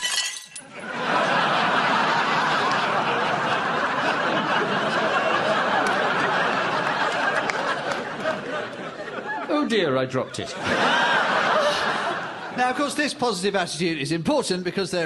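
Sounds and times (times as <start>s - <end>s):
audience laughing: 0.7s - 12.9s.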